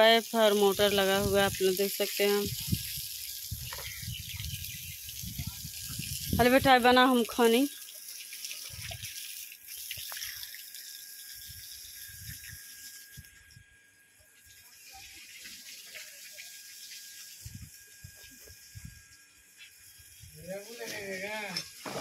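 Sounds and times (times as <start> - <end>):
water running: 0.0 - 13.4, 14.3 - 19.0.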